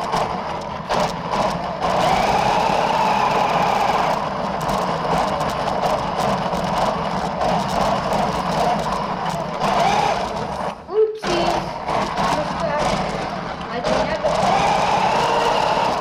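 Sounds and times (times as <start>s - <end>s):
toy car motor whining: 0.0s - 16.0s
tyres scrubbing on floor: 0.0s - 16.0s.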